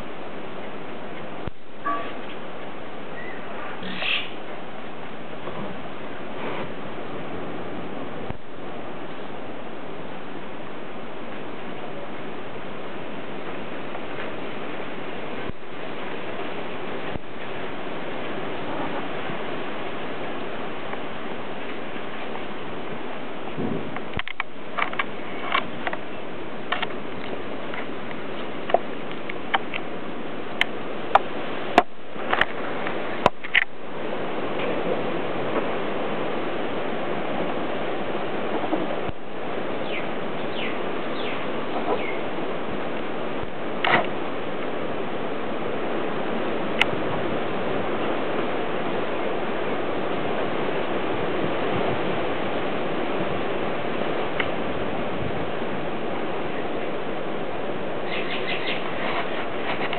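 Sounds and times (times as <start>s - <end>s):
steady hiss: 0.0s - 59.9s
steady rushing noise: 0.0s - 59.9s.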